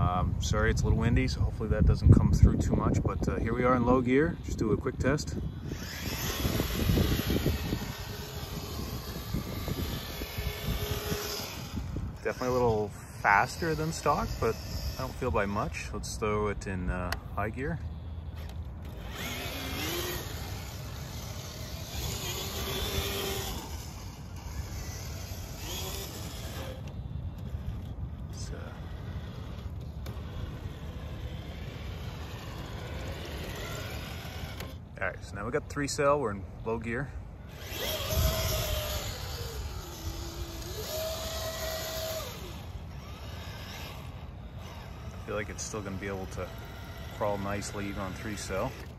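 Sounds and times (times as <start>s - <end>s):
electric motor whining: 0.0s - 48.9s
wind rumbling on microphone: 0.0s - 48.9s.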